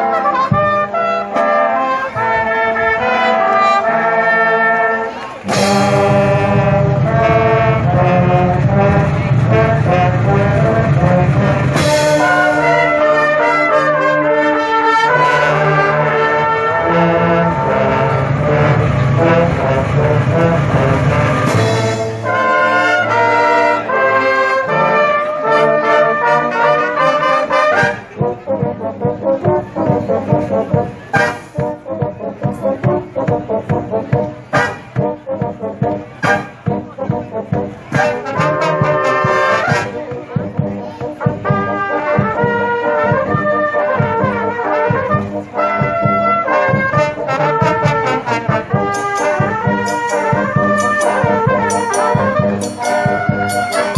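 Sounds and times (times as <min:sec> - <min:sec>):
marching band brass chords: 0:00.0 - 0:53.9.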